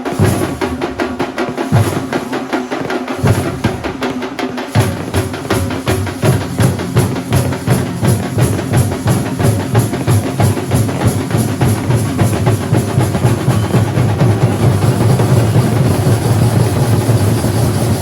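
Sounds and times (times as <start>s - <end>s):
drum ensemble playing: 0.0s - 18.0s
heavy bass drum strokes: 3.0s - 18.0s.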